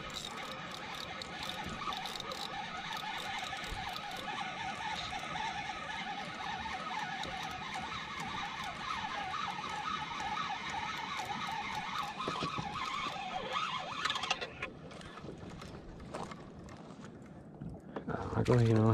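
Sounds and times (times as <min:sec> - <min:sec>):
outboard motor running: 0:00.0 - 0:17.1.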